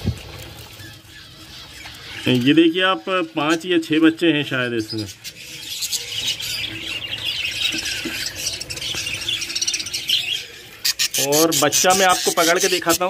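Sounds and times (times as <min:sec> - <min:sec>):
bird chicks chattering and squawking: 0:00.0 - 0:13.0.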